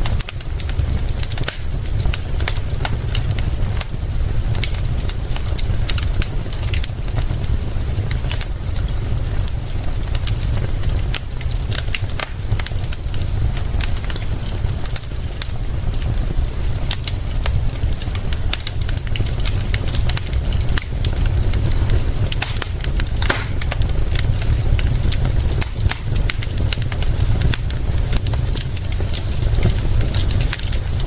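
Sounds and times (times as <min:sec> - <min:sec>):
fire crackling with sharp pops: 0:00.0 - 0:31.0
steady low rumble: 0:00.0 - 0:31.0.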